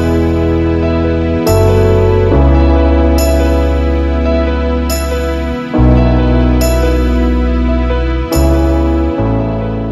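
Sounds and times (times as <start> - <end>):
slow held chords over deep bass: 0.0 - 9.9.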